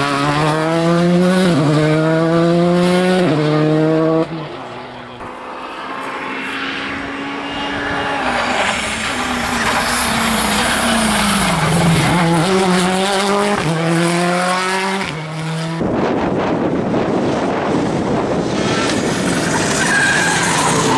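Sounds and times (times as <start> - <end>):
car rushing past: 0.0 - 20.9
rally car engine at speed: 0.0 - 20.9.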